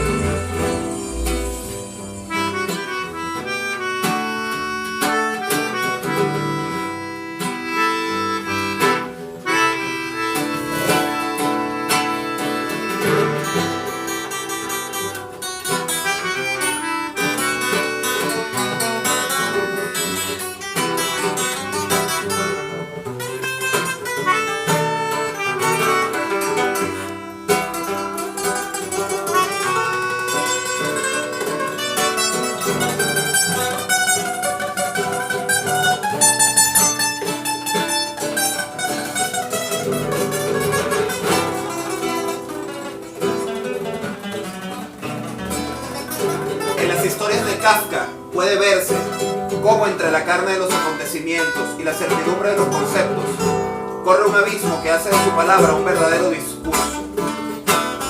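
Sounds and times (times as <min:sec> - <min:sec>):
acoustic guitars playing: 0:00.0 - 0:58.0.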